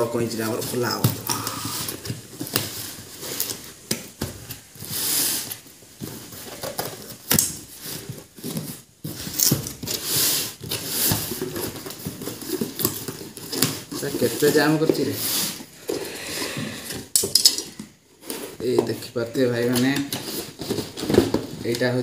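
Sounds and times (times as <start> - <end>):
tape and cardboard crackling: 0.0 - 22.0.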